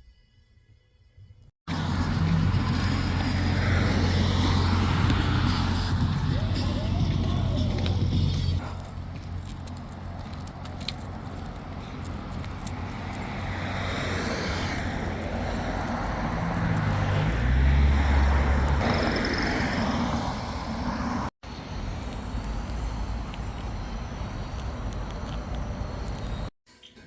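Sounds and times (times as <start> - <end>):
road traffic rushing: 1.7 - 26.5.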